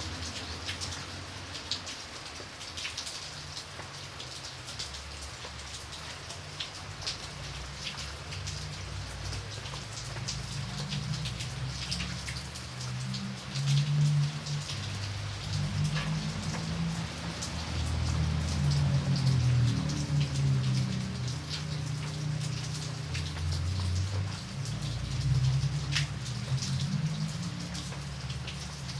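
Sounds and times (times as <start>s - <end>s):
raindrops pattering on a surface: 0.0s - 28.9s.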